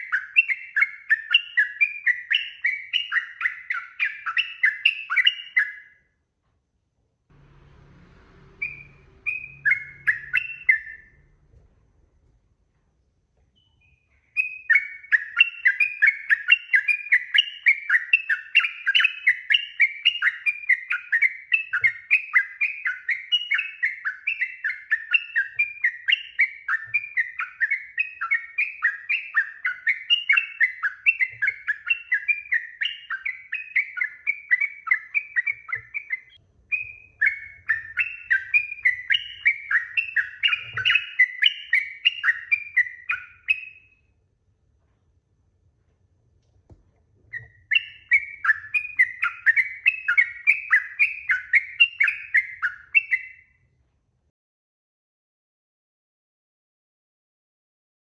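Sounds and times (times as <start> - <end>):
bird singing whistled notes: 0.0 - 6.1, 7.4 - 11.4, 13.6 - 44.1, 47.3 - 53.6.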